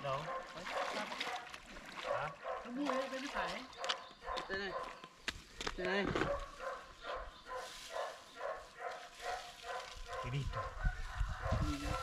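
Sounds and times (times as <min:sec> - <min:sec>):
dog barking: 0:00.1 - 0:02.8, 0:03.7 - 0:05.0, 0:06.2 - 0:12.0.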